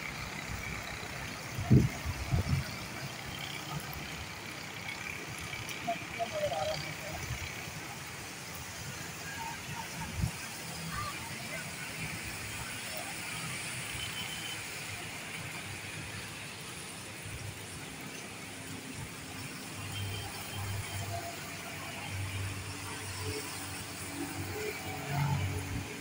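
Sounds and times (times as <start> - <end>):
auto-rickshaw passing: 0.0 - 26.0
steady road hiss: 0.0 - 26.0
motorcycles passing: 0.3 - 26.0.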